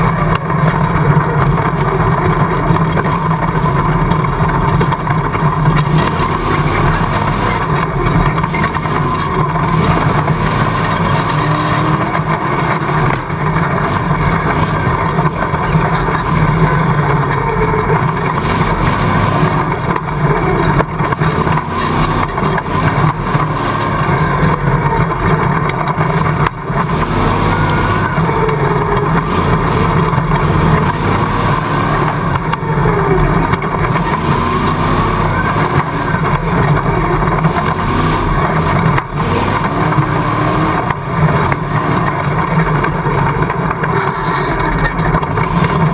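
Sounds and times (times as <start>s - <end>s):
loud engine revving: 0.0s - 45.9s.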